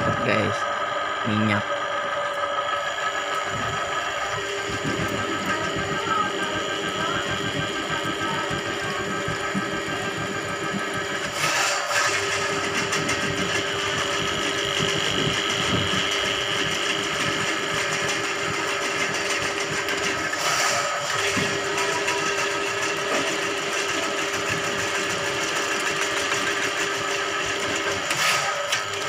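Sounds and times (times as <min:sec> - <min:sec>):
drain cleaning machine motor: 0:00.0 - 0:29.0.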